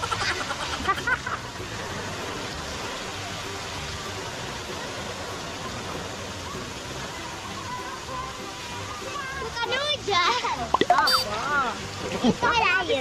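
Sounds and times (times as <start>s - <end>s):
fountain water splashing into pool: 0.0s - 13.0s.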